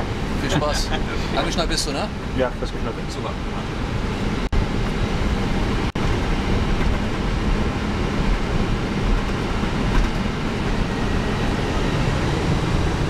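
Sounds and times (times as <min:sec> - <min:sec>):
jet engines idling: 0:00.0 - 0:13.0
low rumble of rolling airframe: 0:00.0 - 0:13.0
ventilation air roar: 0:00.0 - 0:13.0.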